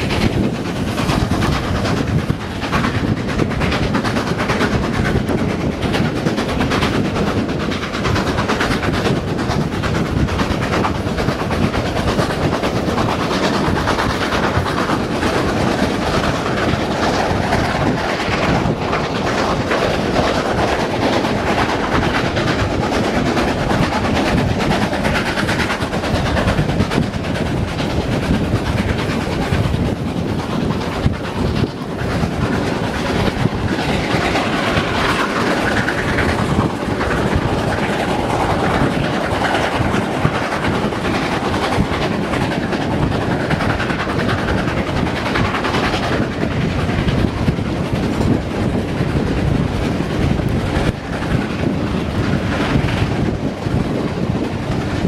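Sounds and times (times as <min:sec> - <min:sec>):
coach wheels clattering on rails: 0:00.0 - 0:55.0.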